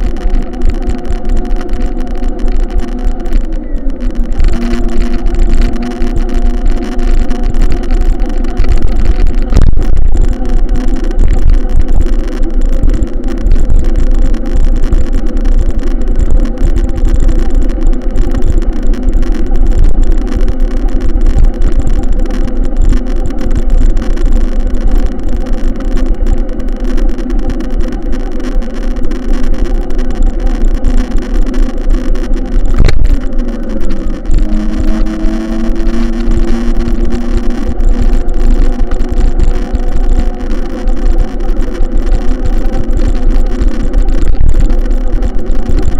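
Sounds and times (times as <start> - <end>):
heavy low rumble: 0.0 - 45.9
loud engine running: 0.0 - 45.9.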